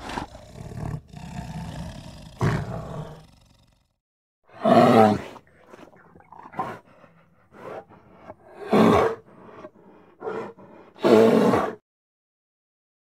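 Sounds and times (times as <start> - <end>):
bear growling and roaring: 0.0 - 11.8.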